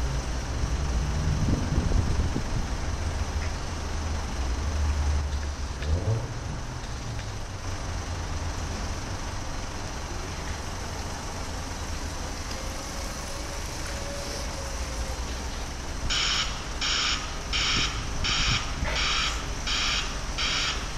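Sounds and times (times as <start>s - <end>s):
forklift hum and rumble: 0.0s - 20.9s.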